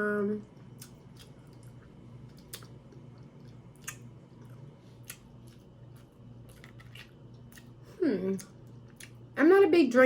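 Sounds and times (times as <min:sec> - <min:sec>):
quiet chewing: 0:00.4 - 0:09.3.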